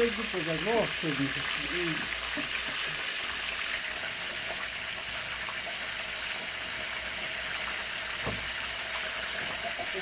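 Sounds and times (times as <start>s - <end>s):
oil sizzling deep-frying: 0.0s - 10.0s.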